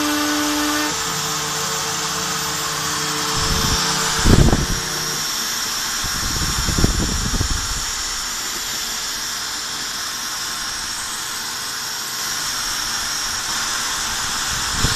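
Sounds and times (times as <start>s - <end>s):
vacuum cleaner hissing: 0.0s - 14.9s.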